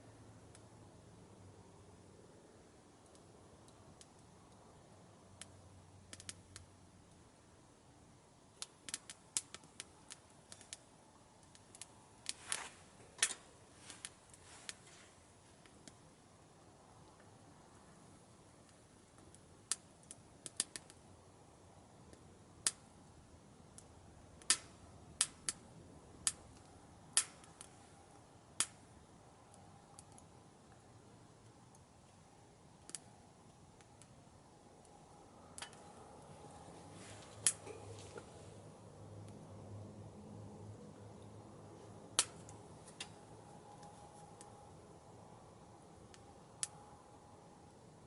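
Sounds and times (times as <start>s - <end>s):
faint hiss: 0.0s - 48.0s
wood fire crackling and popping: 0.5s - 0.7s, 3.0s - 4.6s, 5.3s - 7.5s, 8.4s - 38.5s, 41.2s - 45.1s, 45.8s - 46.8s.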